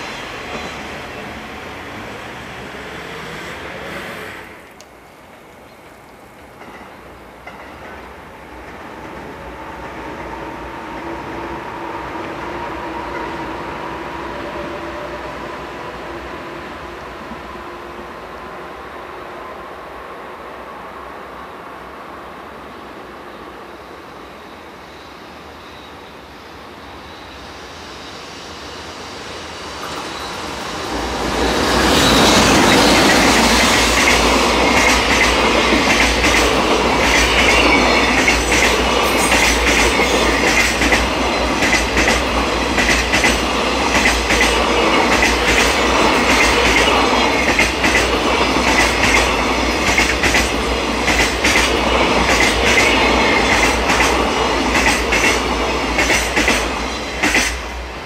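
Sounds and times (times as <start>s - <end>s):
freight train passing: 0.0s - 58.0s.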